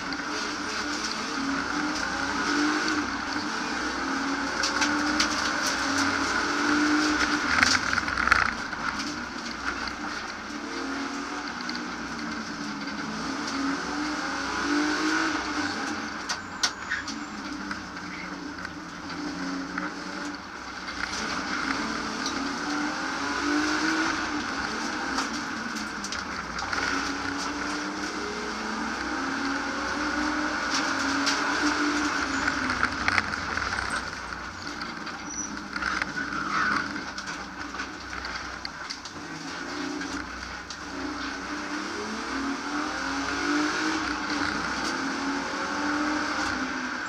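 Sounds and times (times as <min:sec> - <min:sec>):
car engine revving: 0:00.0 - 0:47.0
road and tyre noise: 0:00.0 - 0:47.0.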